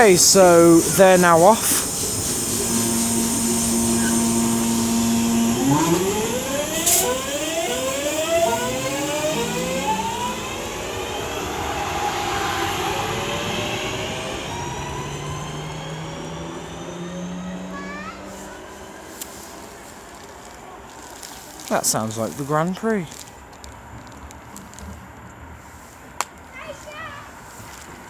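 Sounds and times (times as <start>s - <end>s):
electric train motors whining: 0.0s - 26.1s.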